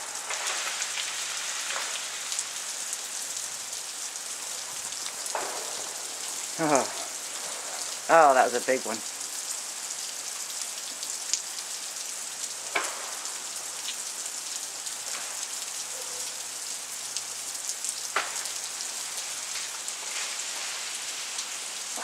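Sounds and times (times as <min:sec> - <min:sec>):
freezing rain hissing: 0:00.0 - 0:22.0.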